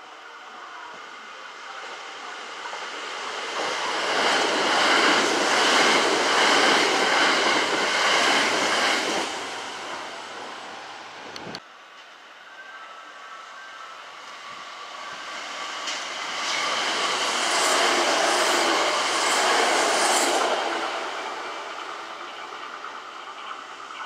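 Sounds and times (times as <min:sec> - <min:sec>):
electric train passing: 0:00.1 - 0:24.0.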